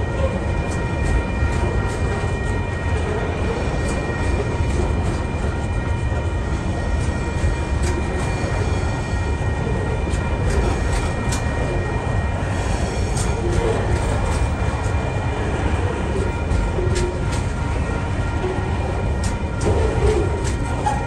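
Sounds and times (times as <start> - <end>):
freight train rumbling past: 0.0 - 21.0
steady high ringing tones: 0.0 - 21.0.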